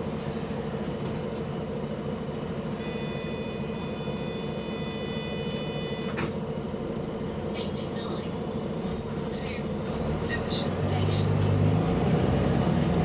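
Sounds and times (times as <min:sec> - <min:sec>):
bus diesel engine drone: 0:00.0 - 0:13.0.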